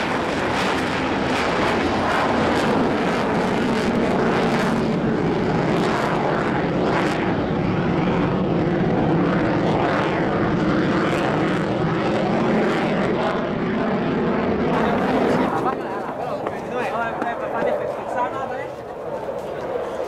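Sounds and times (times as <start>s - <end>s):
rough crackling jet engine: 0.0s - 20.0s.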